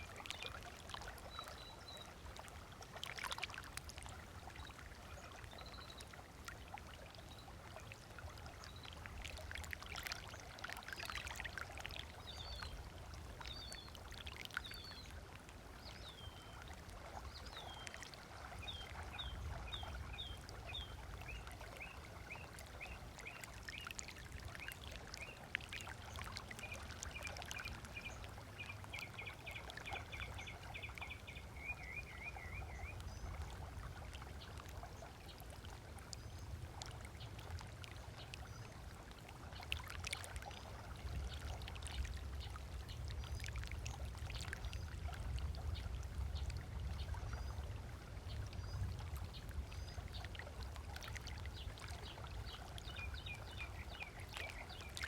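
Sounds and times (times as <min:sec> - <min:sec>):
small waves lapping on sand: 0:00.0 - 0:55.0.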